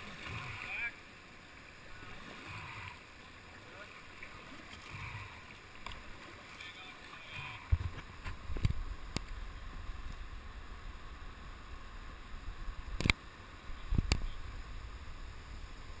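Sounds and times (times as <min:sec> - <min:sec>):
moving water hiss: 0:00.0 - 0:16.0.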